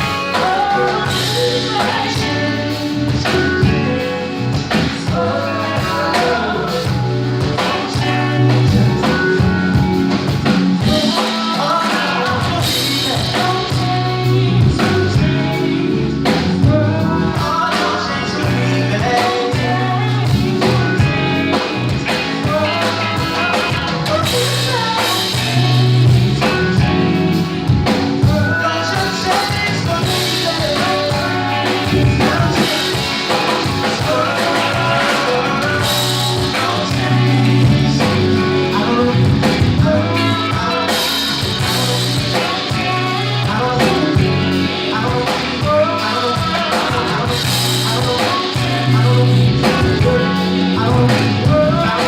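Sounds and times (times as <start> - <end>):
live band playing soul: 0.0 - 52.0
steady bass line: 0.0 - 52.0.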